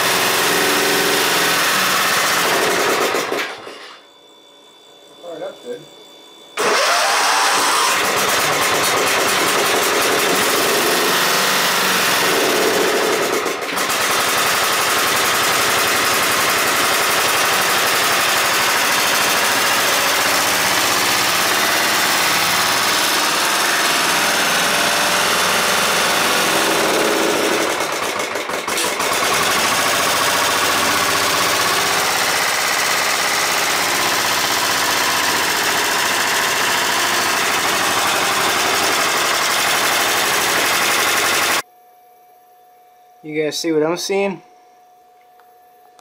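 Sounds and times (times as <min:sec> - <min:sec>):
mower engine starting and running: 0:00.0 - 0:04.0, 0:06.6 - 0:41.6.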